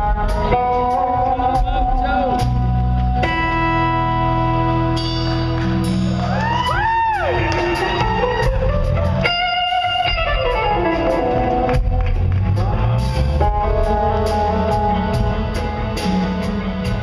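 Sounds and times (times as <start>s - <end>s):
blues-rock band playing: 0.0s - 17.0s
electric guitar lead notes: 0.0s - 17.0s.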